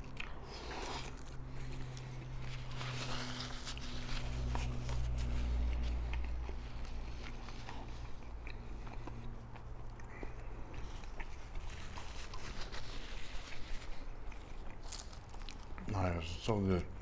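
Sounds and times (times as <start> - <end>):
close-up chewing and biting: 0.0 - 17.0
steady low hum: 0.0 - 17.0.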